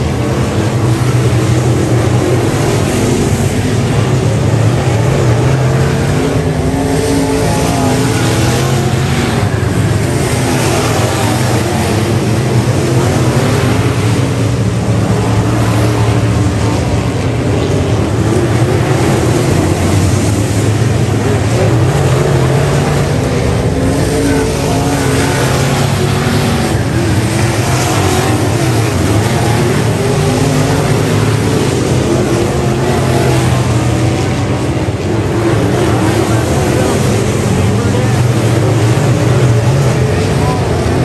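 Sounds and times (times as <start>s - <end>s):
race car engines drone: 0.0s - 41.0s.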